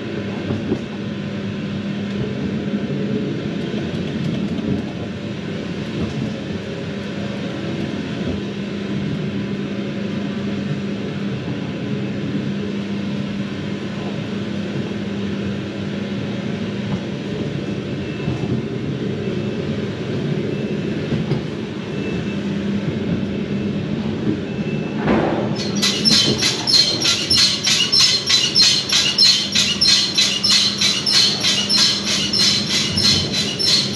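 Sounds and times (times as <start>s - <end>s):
ride car rumbling on track: 0.0s - 33.9s.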